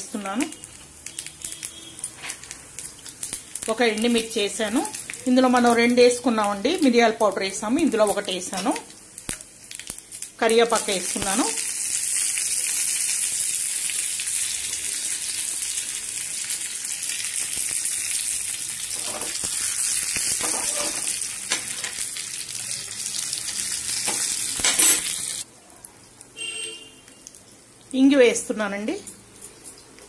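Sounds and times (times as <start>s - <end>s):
spices crackling in hot oil: 0.0s - 26.4s, 27.0s - 28.8s.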